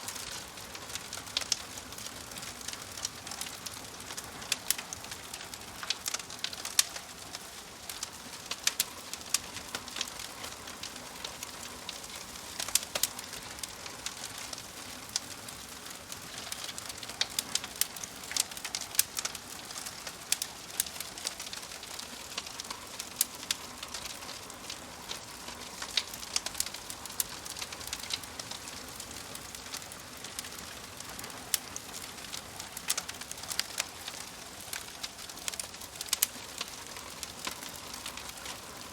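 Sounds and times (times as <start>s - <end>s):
fire hissing: 0.0s - 38.9s
firewood crackling and popping: 0.0s - 38.9s.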